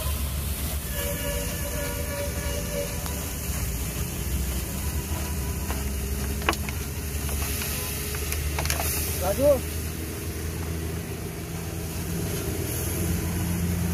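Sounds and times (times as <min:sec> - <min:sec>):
egg sizzling on griddle: 0:00.0 - 0:13.9
water hissing on hot iron: 0:00.0 - 0:13.9.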